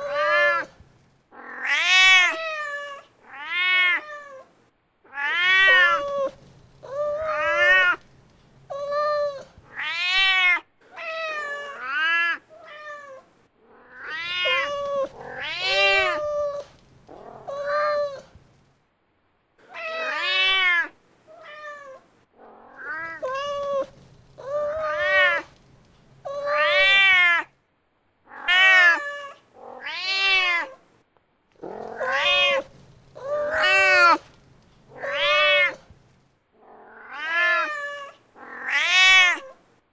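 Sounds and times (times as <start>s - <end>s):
cat meowing: 0.0s - 0.8s, 1.4s - 4.5s, 5.1s - 8.1s, 8.7s - 18.4s, 19.6s - 27.6s, 28.3s - 30.9s, 31.6s - 36.0s, 36.6s - 39.6s.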